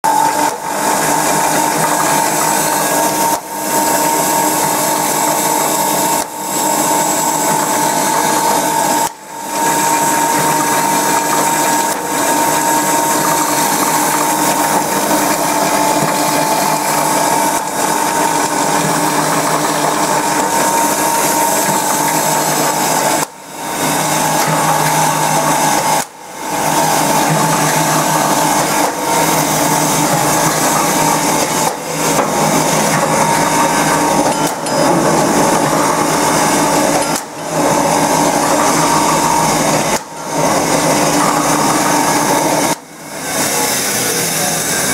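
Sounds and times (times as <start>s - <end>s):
machine drone with high whine: 0.0s - 44.9s.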